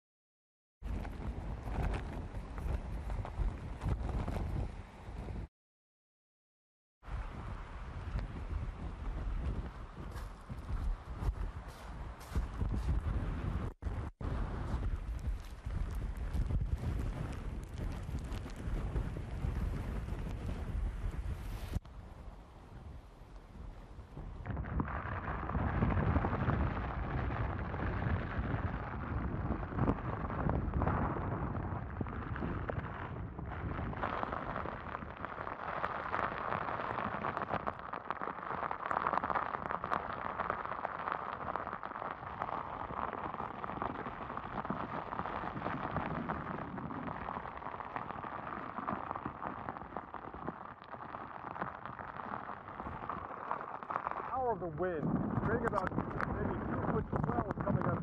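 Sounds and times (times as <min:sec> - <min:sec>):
scattered crackles: 0:00.8 - 0:05.4, 0:07.1 - 0:58.0
strong wind buffeting microphone: 0:00.8 - 0:05.5, 0:07.1 - 0:50.8, 0:51.5 - 0:58.0.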